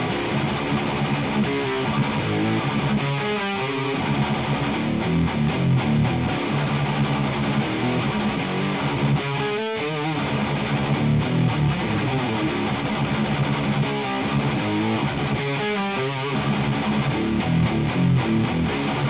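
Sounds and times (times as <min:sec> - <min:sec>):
distorted electric guitar riffs: 0:00.0 - 0:19.0.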